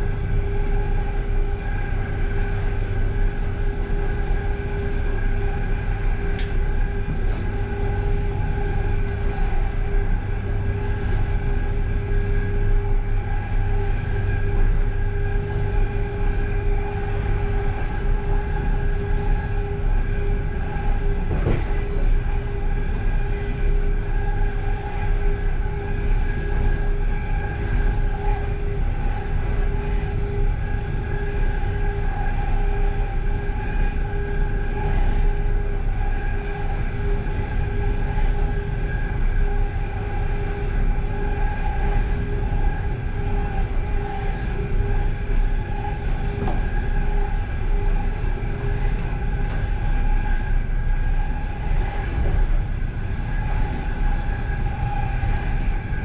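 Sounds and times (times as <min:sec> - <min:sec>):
steady whining tone: 0:00.0 - 0:56.0
train wheels rumbling on rail: 0:00.0 - 0:56.0.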